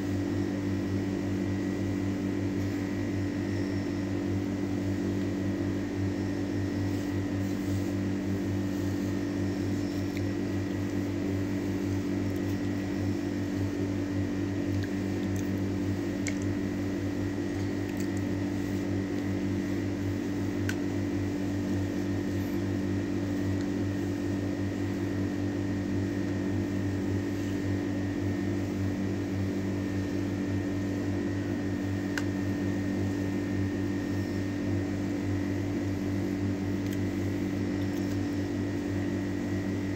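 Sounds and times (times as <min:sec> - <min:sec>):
machine hum with high whine: 0:00.0 - 0:39.9.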